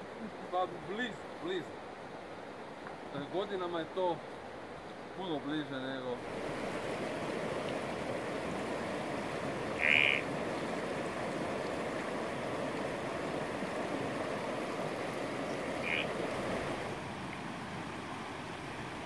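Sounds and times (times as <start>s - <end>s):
river flowing over stones: 0.0s - 19.0s.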